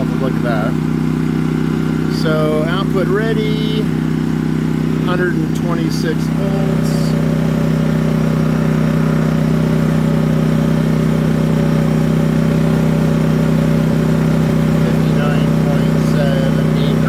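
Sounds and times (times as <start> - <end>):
generator running: 0.0 - 17.0.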